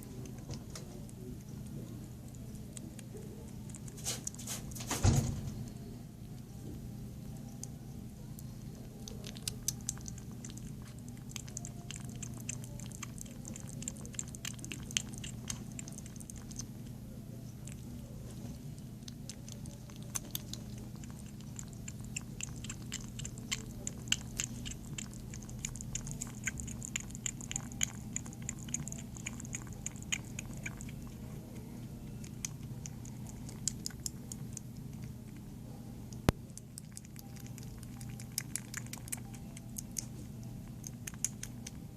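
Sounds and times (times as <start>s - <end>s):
kitten chewing and biting: 0.0s - 41.9s.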